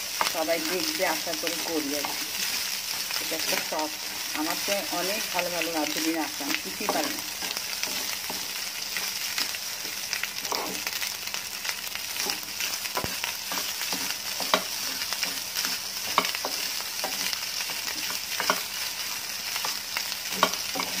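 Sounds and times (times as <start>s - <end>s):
rice sizzling in a frying pan: 0.0s - 21.0s
wooden spatula scraping a pan: 0.1s - 11.0s, 12.2s - 21.0s.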